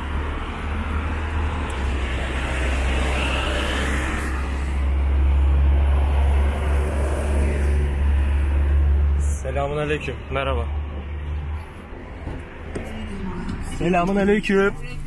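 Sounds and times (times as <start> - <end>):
cars driving past: 0.0 - 15.0
low traffic rumble: 0.0 - 15.0.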